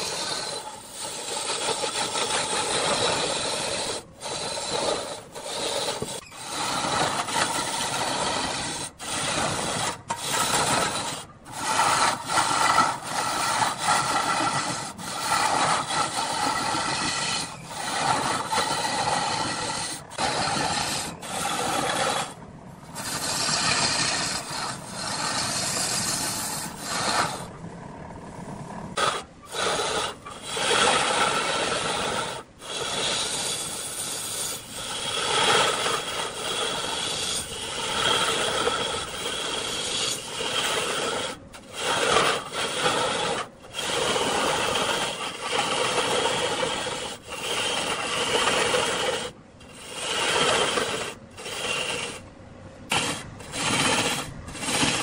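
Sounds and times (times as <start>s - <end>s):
lathe tool scraping wood: 0.0s - 27.7s, 28.4s - 55.0s.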